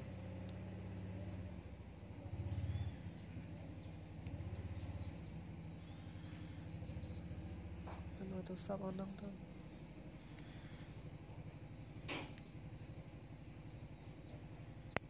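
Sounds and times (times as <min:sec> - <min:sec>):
low steady rumble: 0:00.0 - 0:15.0
small bird chirping: 0:00.0 - 0:15.0.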